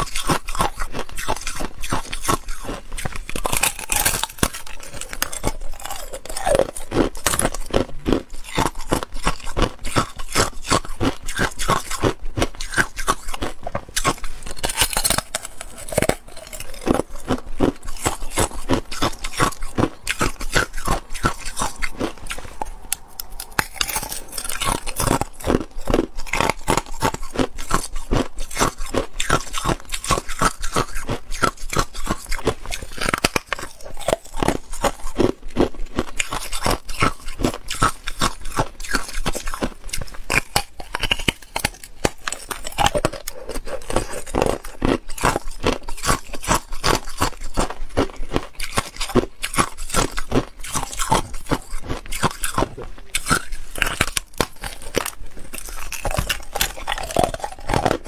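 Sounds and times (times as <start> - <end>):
ice crunching between teeth: 0.0 - 58.0.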